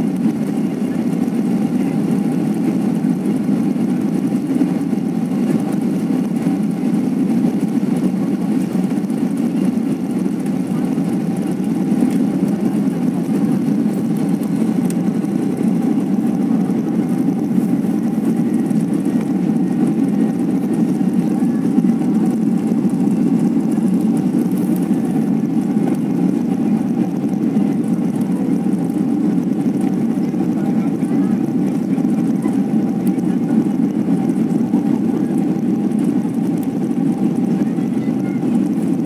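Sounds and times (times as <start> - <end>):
jet engines droning in cabin: 0.0 - 39.0.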